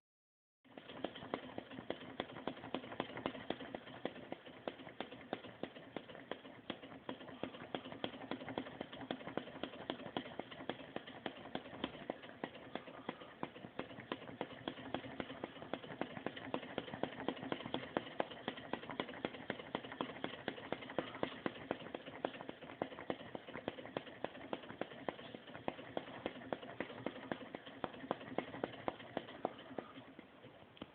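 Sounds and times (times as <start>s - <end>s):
small engine mechanical clatter: 0.6s - 30.9s.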